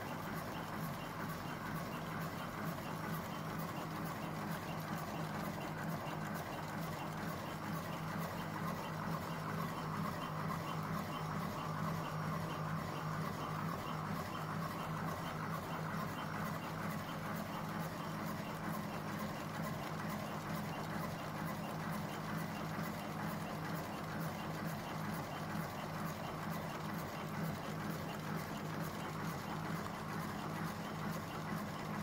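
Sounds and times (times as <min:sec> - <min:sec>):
machine motor hum: 0:00.0 - 0:32.0.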